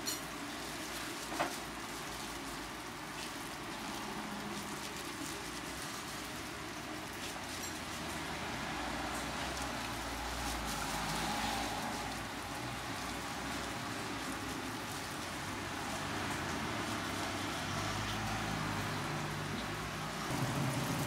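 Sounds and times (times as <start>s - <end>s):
oil sizzling on a griddle: 0.0s - 21.0s.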